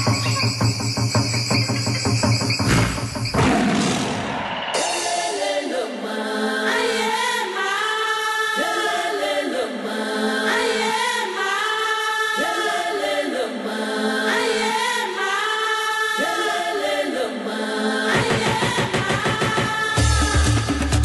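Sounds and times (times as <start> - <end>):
choir singing a chant: 2.7 - 20.3.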